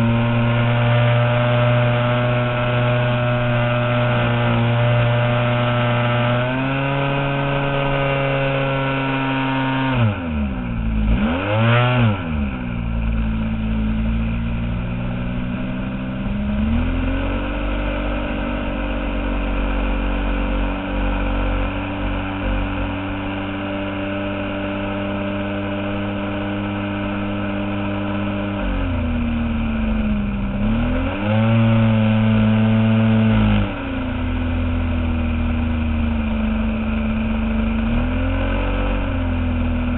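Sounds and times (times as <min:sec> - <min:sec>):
model airplane engine and propeller: 0:00.0 - 0:39.9.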